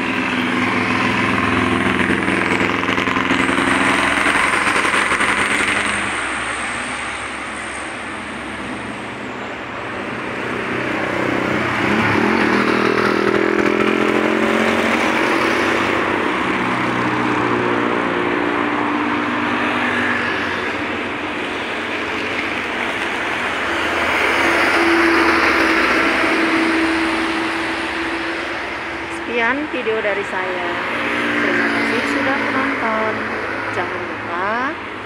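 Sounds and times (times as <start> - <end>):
bus passing: 0.0 - 35.0
road traffic passing: 0.0 - 35.0.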